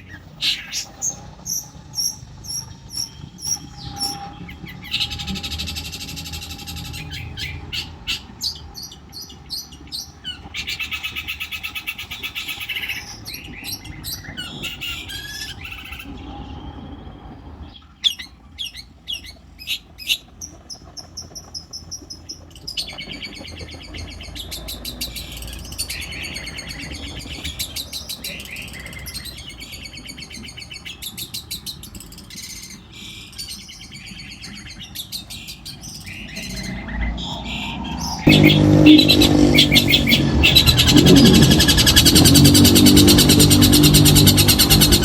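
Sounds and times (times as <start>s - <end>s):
bird singing: 0.0s - 45.0s.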